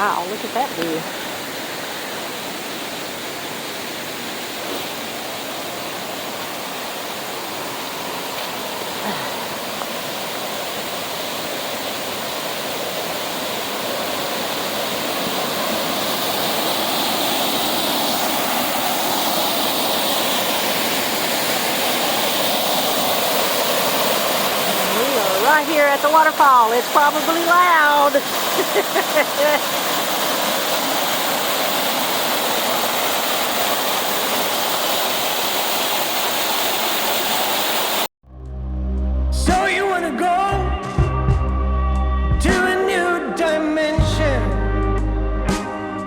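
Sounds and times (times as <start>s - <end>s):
waterfall roaring: 0.0s - 38.1s.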